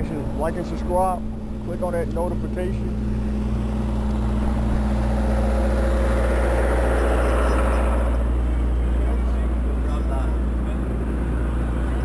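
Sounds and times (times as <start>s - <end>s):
traffic noise: 0.0s - 12.0s
wind and road noise rumble: 0.0s - 12.0s.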